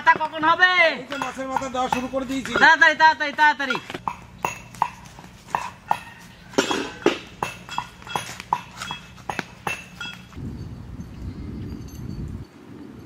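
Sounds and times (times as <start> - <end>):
light metallic clinks: 1.1 - 2.7, 3.7 - 12.6.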